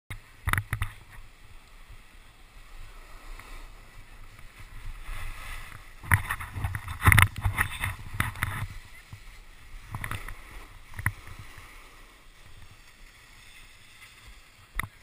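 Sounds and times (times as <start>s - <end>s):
snowboard sliding on slush: 0.9s - 15.0s.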